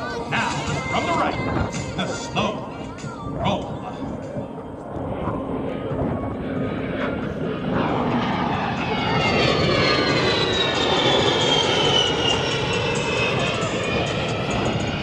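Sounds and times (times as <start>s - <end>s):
high whine gliding down: 0.0s - 15.0s
jet engines roaring: 0.0s - 15.0s.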